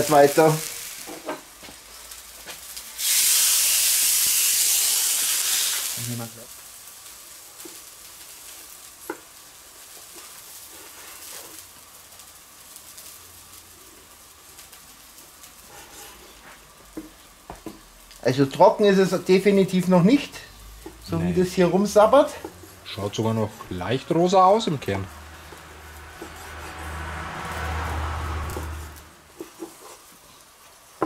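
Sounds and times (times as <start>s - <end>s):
food sizzling in hot fat: 0.0s - 31.0s.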